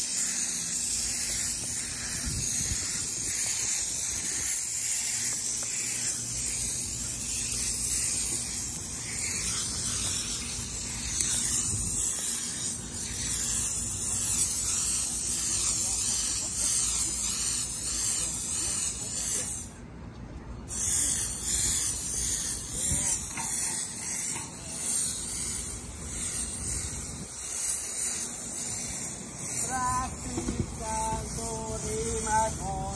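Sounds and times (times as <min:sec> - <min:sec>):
spray adhesive hissing: 0:00.0 - 0:19.8, 0:20.7 - 0:32.9.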